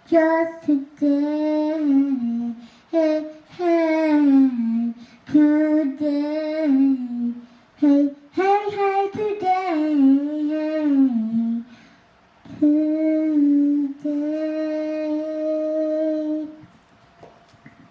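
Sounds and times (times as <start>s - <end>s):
girl singing into toy microphone: 0.0s - 11.7s, 12.4s - 16.7s.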